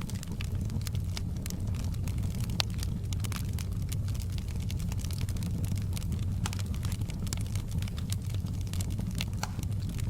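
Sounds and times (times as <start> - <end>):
low rumble of burning fire: 0.0 - 10.0
wood fire crackling: 0.0 - 10.0.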